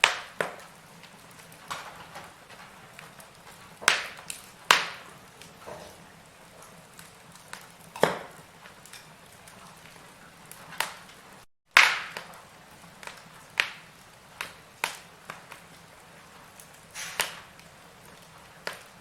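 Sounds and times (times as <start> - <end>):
firewood crackling and popping: 0.0 - 19.0.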